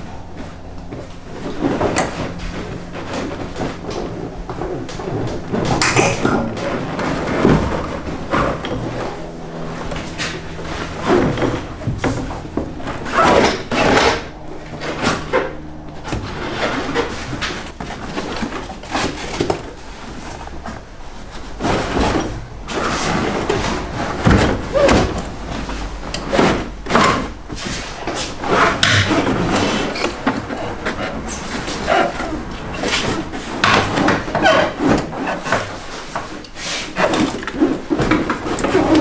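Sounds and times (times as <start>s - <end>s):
carpet scraping and rustling: 0.0s - 39.0s.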